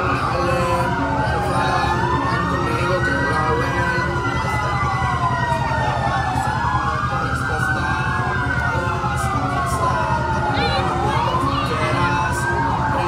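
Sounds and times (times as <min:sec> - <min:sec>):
engine rumble: 0:00.0 - 0:13.0
high wavering siren: 0:00.0 - 0:13.0
siren rising and falling: 0:00.0 - 0:13.0.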